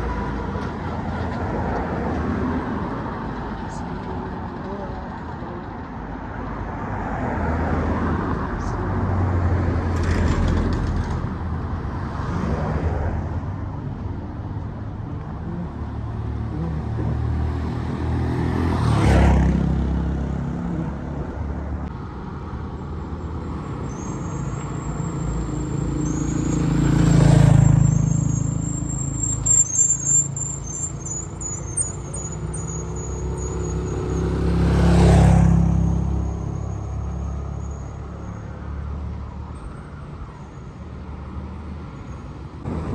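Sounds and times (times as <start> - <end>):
low traffic rumble: 0.0 - 42.9
vehicles passing close by: 0.0 - 42.9.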